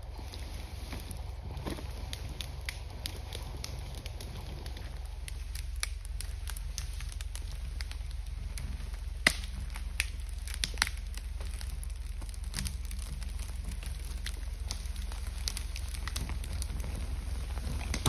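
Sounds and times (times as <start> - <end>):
log dragged through brush: 0.0 - 18.0
low drone: 0.0 - 18.0
twigs snapping and crackling: 0.0 - 18.0.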